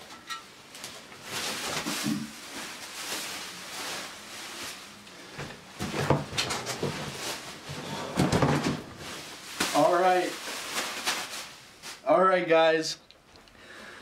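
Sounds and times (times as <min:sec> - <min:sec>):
cardboard and foam rustling: 0:00.8 - 0:12.1.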